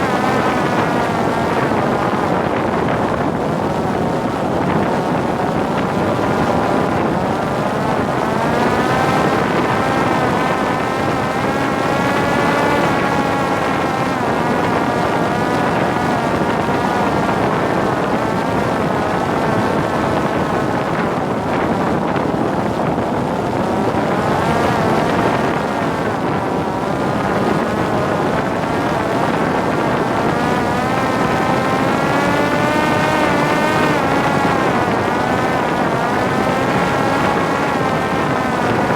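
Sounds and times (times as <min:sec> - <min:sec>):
drone motor and propeller whining: 0:00.0 - 0:38.9
wind rush on microphone: 0:00.0 - 0:38.9.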